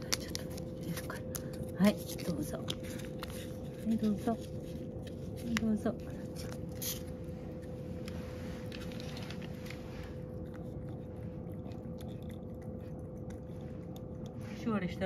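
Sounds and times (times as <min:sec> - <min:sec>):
cat chewing wet food: 0:00.0 - 0:15.0
faint steady hum: 0:00.0 - 0:15.0.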